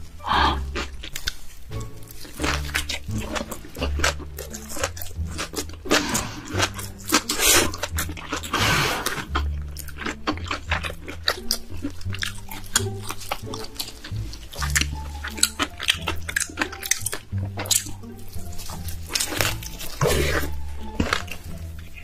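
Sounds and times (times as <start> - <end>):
background music with bass: 0.0 - 22.0
crunching and biting: 0.0 - 22.0
noisy slurping: 2.5 - 22.0.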